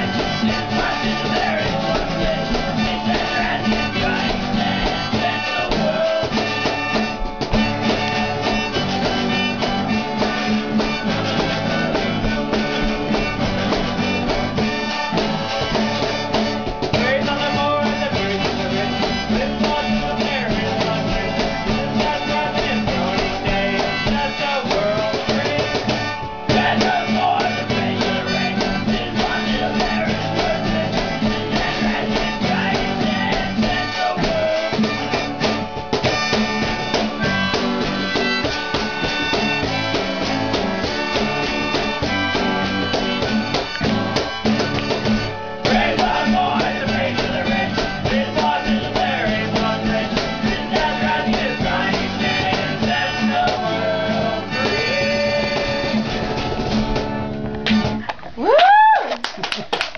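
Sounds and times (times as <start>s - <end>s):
electric bass: 0.0s - 58.4s
strummed acoustic guitar: 0.0s - 58.4s
cajon beat: 0.0s - 59.9s.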